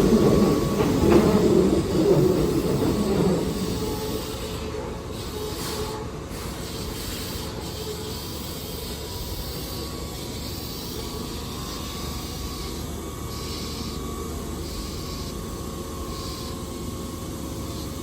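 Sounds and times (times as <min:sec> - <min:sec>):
electric train humming and hissing: 0:00.0 - 0:18.0.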